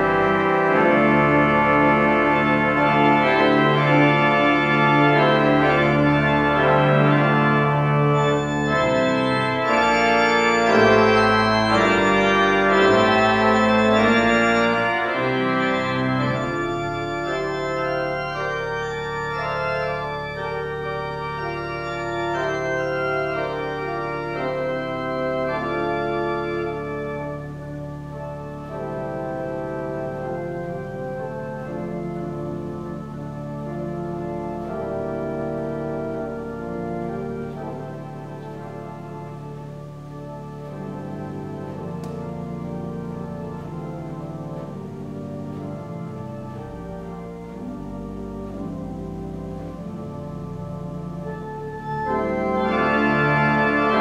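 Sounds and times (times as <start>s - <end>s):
church pipe organ chords: 0.0s - 54.0s.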